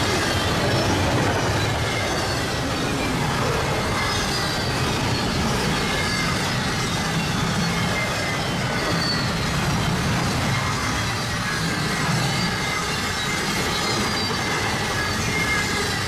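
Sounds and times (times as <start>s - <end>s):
freight train passing: 0.0s - 16.0s
wheel squeal: 0.0s - 16.0s.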